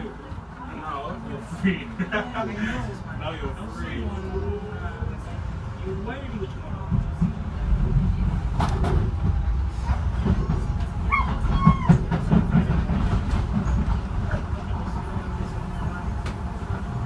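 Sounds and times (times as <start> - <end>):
train running low rumble: 0.0 - 17.0.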